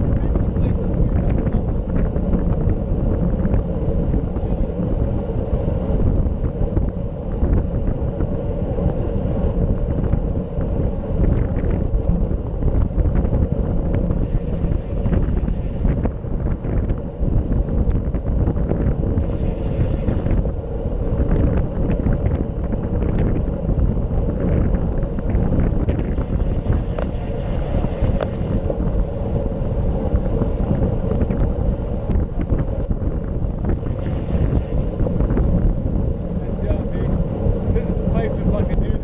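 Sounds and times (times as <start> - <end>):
tyres rumbling on asphalt: 0.0 - 39.0
wind rushing over microphone: 0.0 - 39.0.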